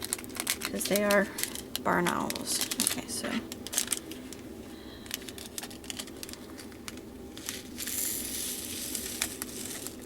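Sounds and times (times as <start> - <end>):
plastic packets crinkling: 0.0 - 10.0.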